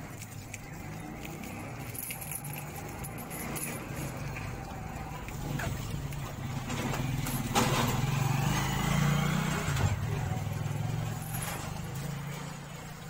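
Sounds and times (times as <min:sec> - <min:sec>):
motor engine running: 0:00.7 - 0:13.0.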